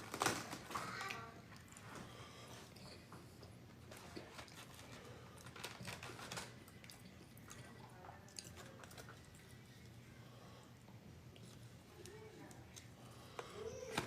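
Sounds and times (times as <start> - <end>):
chewing food: 1.0 - 13.6.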